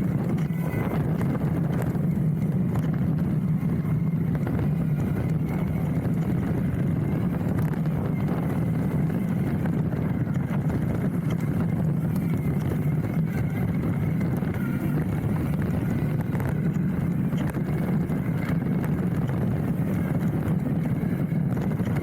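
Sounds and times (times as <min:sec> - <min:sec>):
bike rattling and clicking: 0:00.0 - 0:22.0
bike tyres rumbling on dirt: 0:00.0 - 0:22.0.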